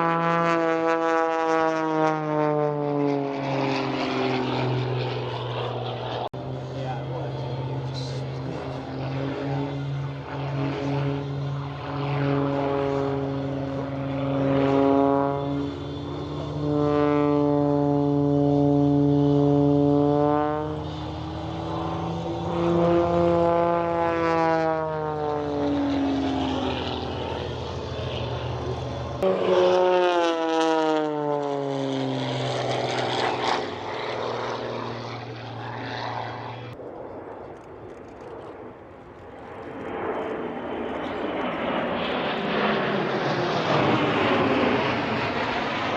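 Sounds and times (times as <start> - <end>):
propeller plane engine: 0.0 - 45.9.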